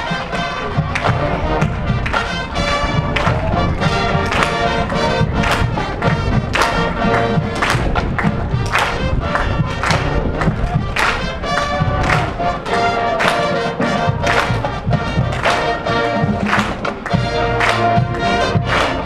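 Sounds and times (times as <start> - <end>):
brass holding chords: 0.0 - 19.0
drum hits: 0.6 - 19.0.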